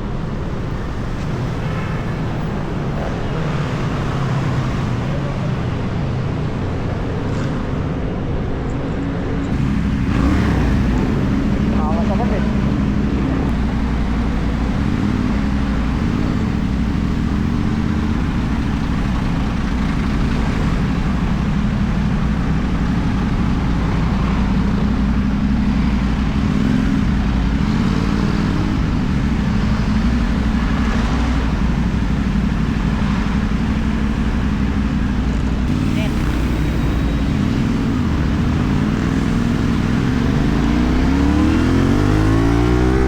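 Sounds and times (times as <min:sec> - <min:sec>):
motorcycle engine low drone: 0:00.0 - 0:43.0.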